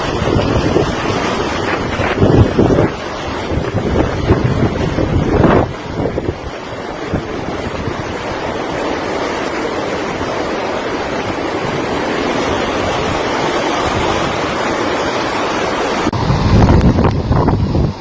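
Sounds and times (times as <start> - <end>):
hurricane wind: 0.0 - 18.0
pounding surf: 0.0 - 18.0
wind buffeting microphone: 0.0 - 18.0.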